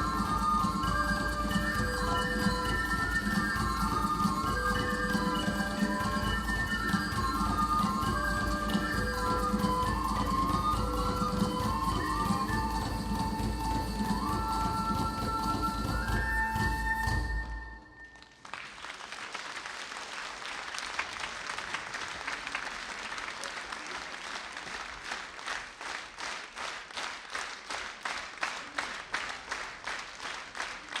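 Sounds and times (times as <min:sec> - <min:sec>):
audience applauding: 0:00.0 - 0:17.4, 0:18.1 - 0:31.0
rhythmic clapping in unison: 0:00.0 - 0:17.6, 0:18.2 - 0:31.0.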